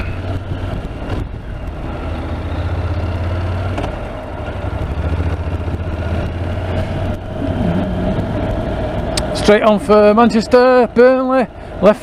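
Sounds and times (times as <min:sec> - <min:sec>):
motorcycle engine running: 0:00.0 - 0:09.8
road and wind noise: 0:00.0 - 0:12.0.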